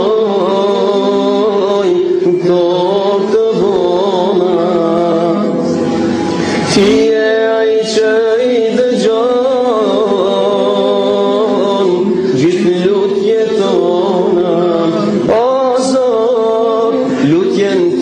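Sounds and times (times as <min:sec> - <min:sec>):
man singing unaccompanied: 0:00.0 - 0:05.8, 0:06.7 - 0:18.0.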